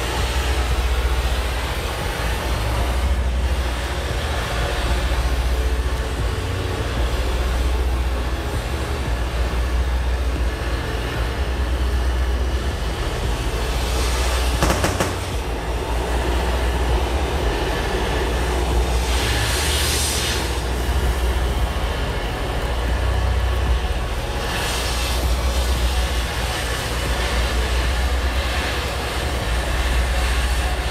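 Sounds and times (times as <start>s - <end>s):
cutting torch flame roar: 0.0s - 30.9s
torch hissing: 0.0s - 30.9s.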